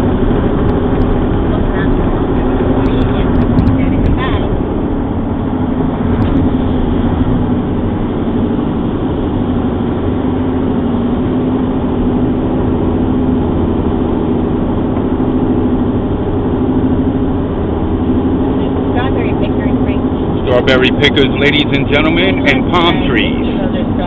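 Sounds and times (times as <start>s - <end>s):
car cabin road and engine drone: 0.0s - 24.0s
constant low hum: 0.0s - 24.0s.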